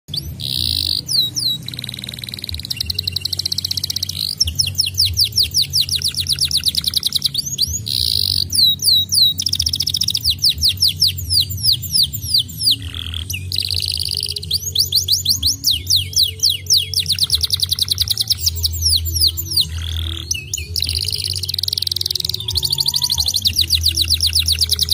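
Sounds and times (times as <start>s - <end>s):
canary singing trills: 0.1s - 24.9s.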